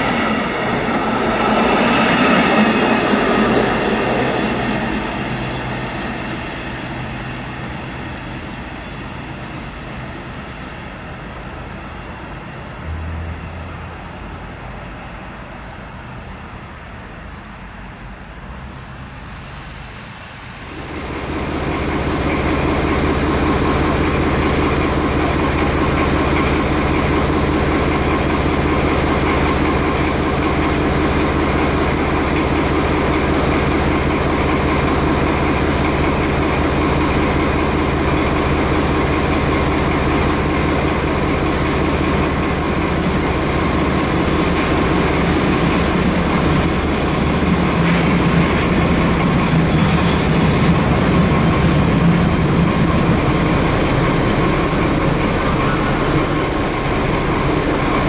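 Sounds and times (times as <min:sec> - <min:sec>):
diesel locomotive engine running: 0:00.0 - 0:58.0
passenger train rolling: 0:00.0 - 0:58.0.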